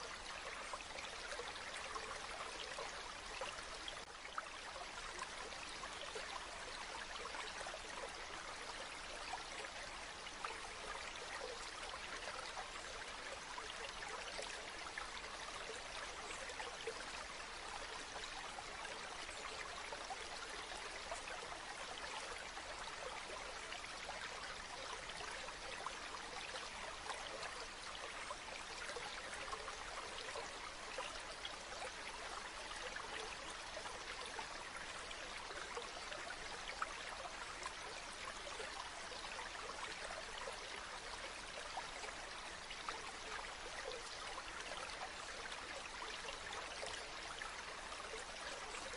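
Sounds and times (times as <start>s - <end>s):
stream of running water: 0.0s - 48.9s.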